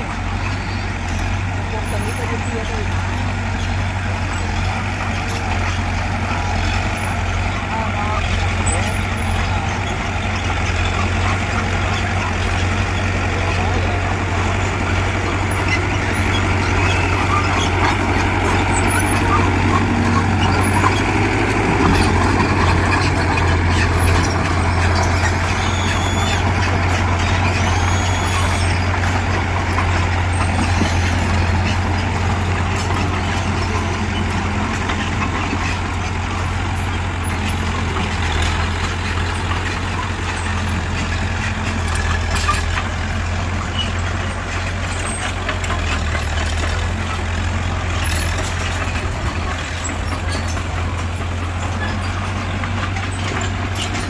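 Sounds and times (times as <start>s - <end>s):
heavy diesel machinery drone: 0.0s - 54.0s.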